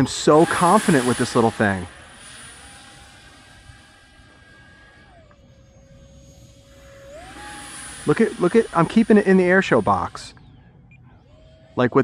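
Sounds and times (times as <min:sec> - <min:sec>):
electric ducted fan whining: 0:00.0 - 0:12.0.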